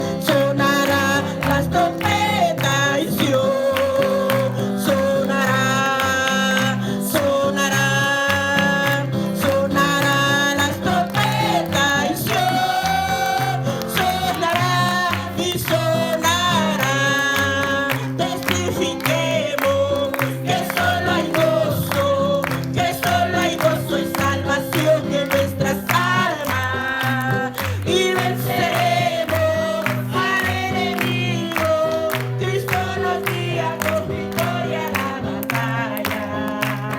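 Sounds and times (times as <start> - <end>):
chorus singing: 0.0 - 36.9.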